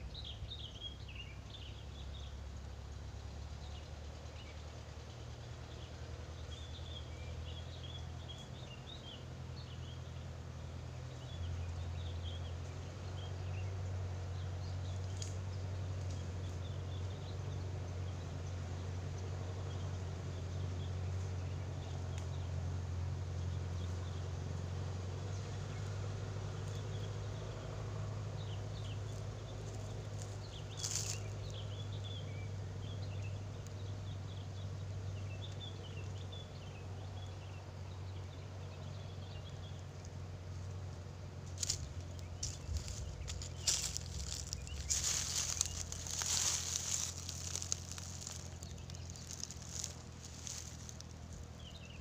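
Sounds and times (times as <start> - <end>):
small birds chirping: 0.0 - 52.0
steady low hum: 0.0 - 52.0.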